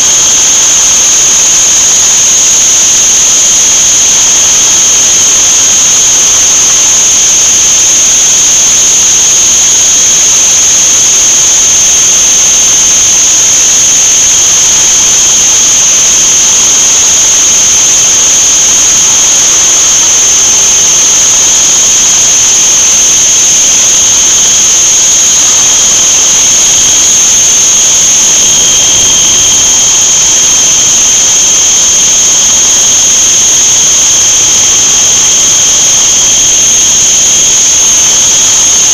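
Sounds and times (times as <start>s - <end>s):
high-pitched spindle whine: 0.0s - 38.9s
weak lower whine: 0.0s - 38.9s.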